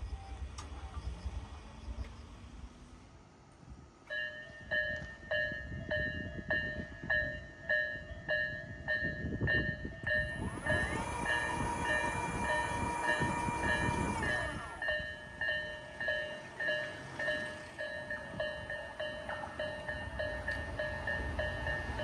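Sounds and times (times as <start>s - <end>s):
approaching train noise: 0.0s - 22.0s
level crossing bell clanging: 4.1s - 22.0s.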